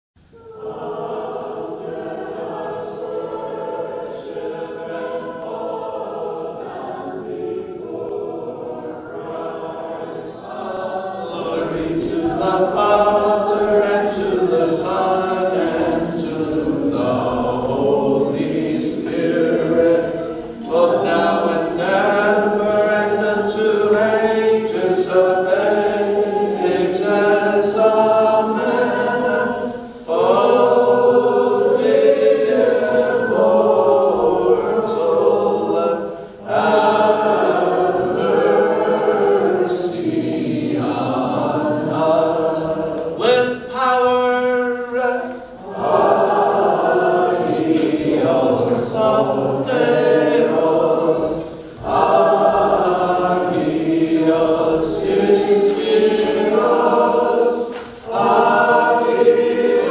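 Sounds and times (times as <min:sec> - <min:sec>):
choir singing a chant: 0:00.3 - 0:59.9.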